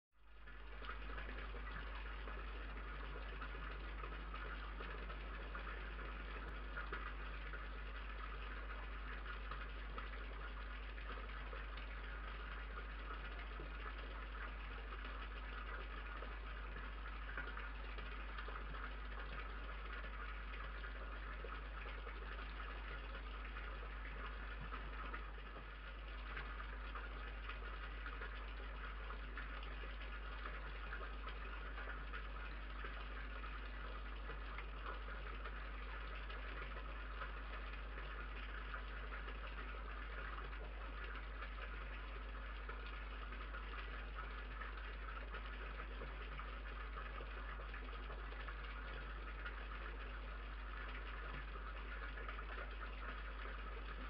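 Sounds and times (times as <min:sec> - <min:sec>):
low electrical hum: 0:00.2 - 0:54.0.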